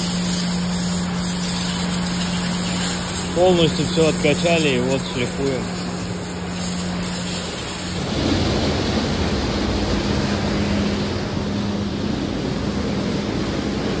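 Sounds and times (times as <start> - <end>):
machine hum: 0.0 - 14.0
water rushing and churning: 0.0 - 14.0.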